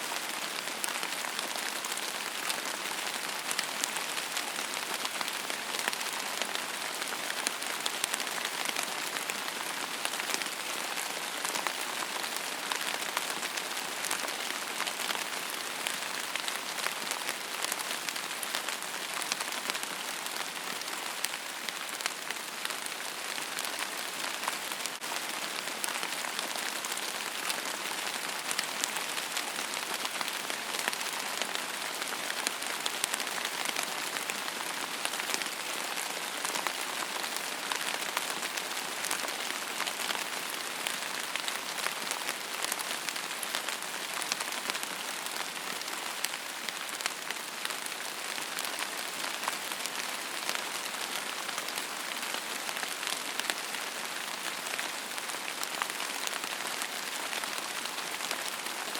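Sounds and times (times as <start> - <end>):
rain on a hard surface: 0.0 - 58.9.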